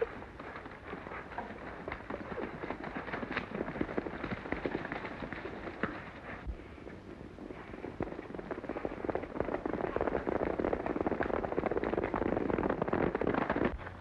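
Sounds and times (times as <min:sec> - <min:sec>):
galloping horse hoofbeats: 0:00.0 - 0:14.0.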